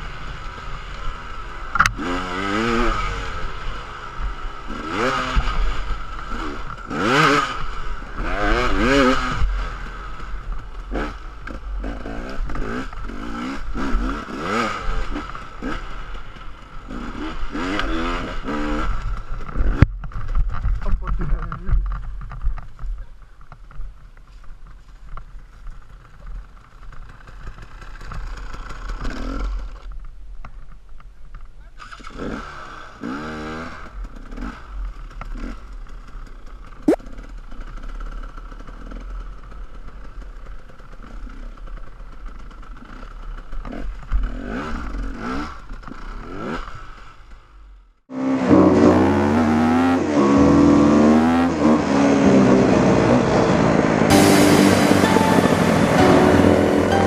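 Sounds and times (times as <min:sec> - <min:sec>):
motorcycle engine revving: 0:00.0 - 0:22.8, 0:25.8 - 0:29.9, 0:31.8 - 0:57.0.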